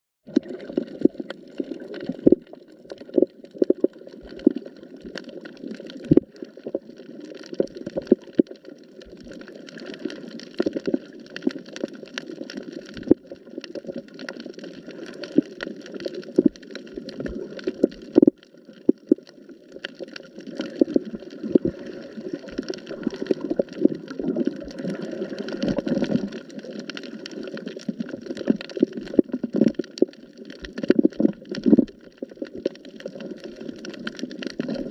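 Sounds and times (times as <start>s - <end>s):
water gurgling and sloshing: 0.3s - 34.9s.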